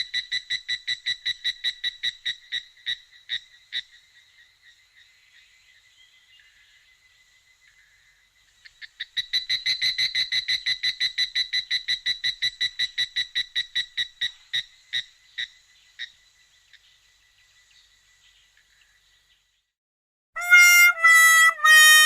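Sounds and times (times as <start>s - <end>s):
rapid cricket chirps: 0.0s - 19.7s.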